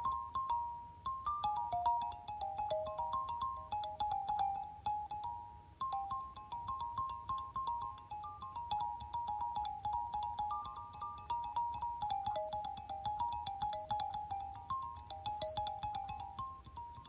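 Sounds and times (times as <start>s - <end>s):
kalimba melody: 0.0s - 17.0s.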